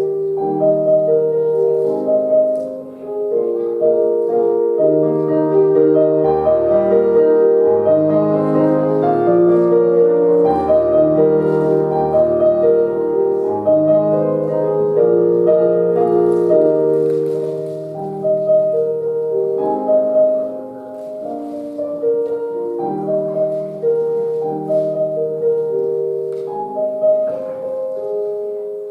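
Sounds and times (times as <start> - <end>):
slow piano prelude: 0.0 - 28.9.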